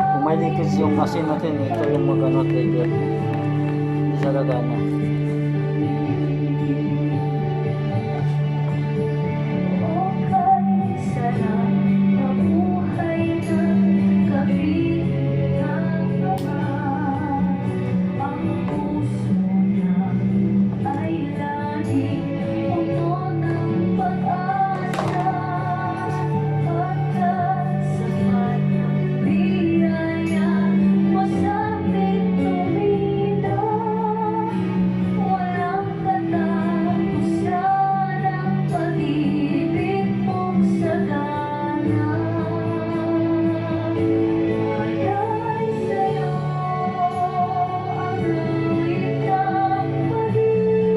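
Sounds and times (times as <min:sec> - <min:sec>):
woman singing over a beat: 0:00.0 - 0:02.1, 0:09.8 - 0:50.9.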